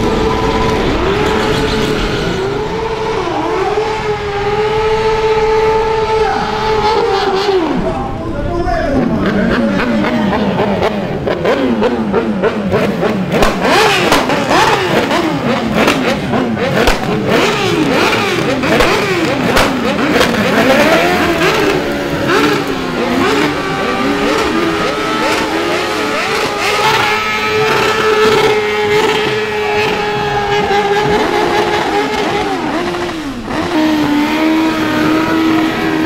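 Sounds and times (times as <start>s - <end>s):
motorcycles revving: 0.0s - 36.0s.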